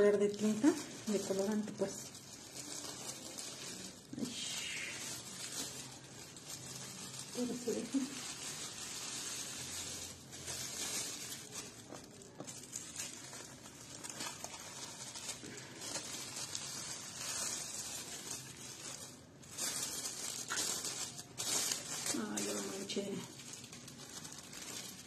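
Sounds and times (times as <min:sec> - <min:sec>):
plastic sheeting crinkling: 0:00.0 - 0:25.0.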